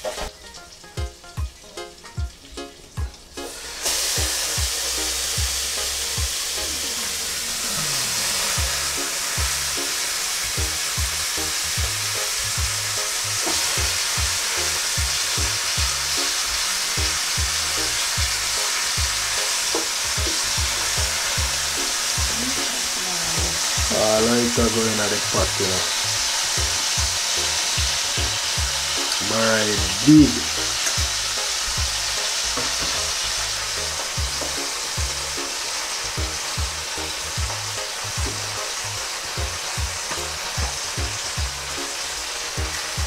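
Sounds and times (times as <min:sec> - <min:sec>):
background music with beat: 0:00.0 - 0:43.0
fish sizzling in butter: 0:00.0 - 0:43.0.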